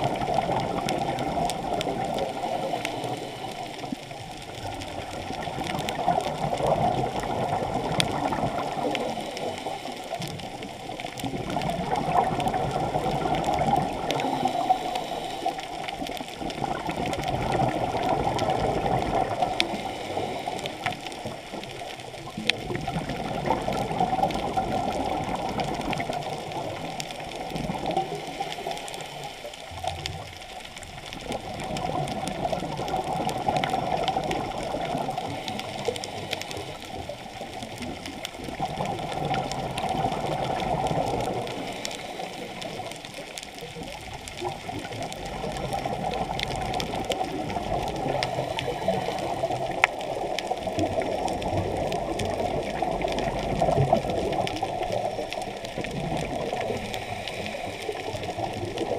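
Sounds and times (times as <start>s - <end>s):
faint clicks: 0.0s - 58.9s
muffled underwater water noise: 0.0s - 58.9s.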